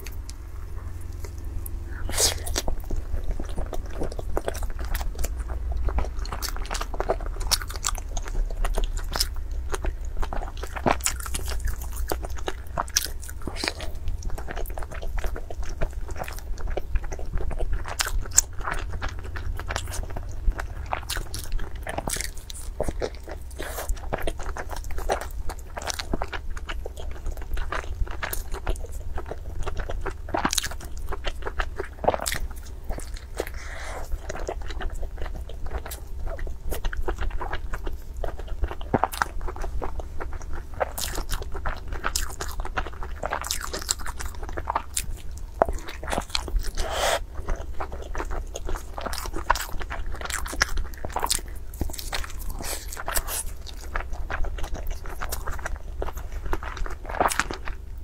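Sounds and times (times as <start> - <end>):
biting and chewing crunches: 0.0 - 58.0
steady low hum: 0.0 - 58.0.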